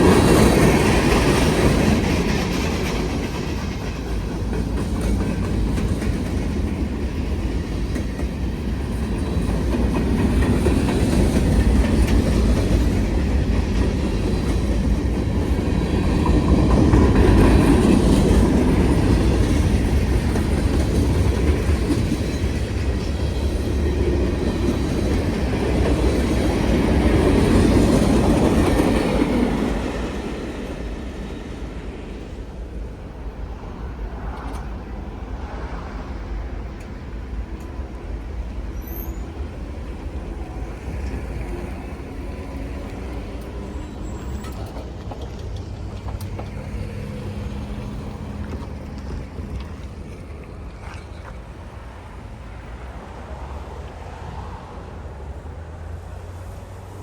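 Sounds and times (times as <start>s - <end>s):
train wheels clacking over rail joints: 0.0s - 31.4s, 36.6s - 51.5s.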